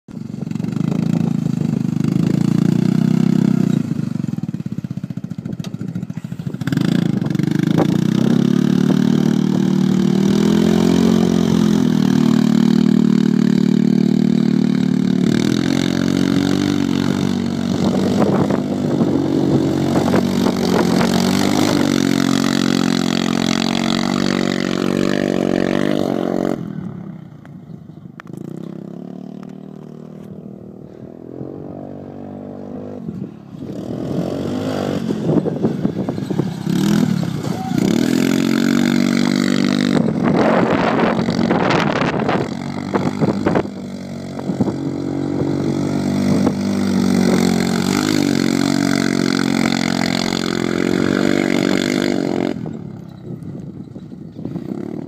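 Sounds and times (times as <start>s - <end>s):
utility vehicle engine revving: 0.3s - 27.5s, 28.2s - 55.0s.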